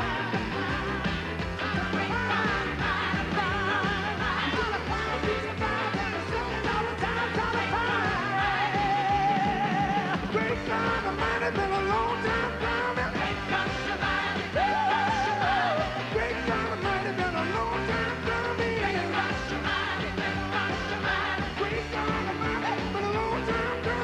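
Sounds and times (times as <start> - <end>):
person singing: 0.0 - 24.0
rock and roll band with piano: 0.0 - 24.0.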